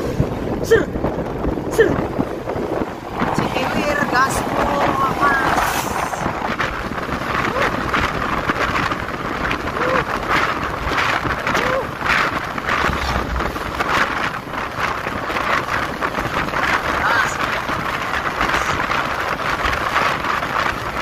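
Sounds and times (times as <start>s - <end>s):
road noise: 0.0s - 21.0s
wind rushing over microphone: 0.0s - 21.0s.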